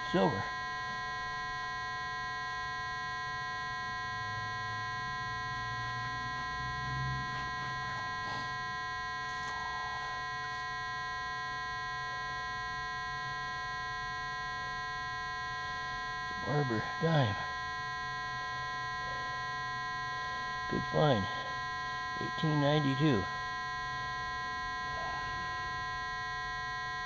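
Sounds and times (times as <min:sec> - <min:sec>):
high electronic hum: 0:00.0 - 0:27.0
lower hum: 0:00.0 - 0:27.0.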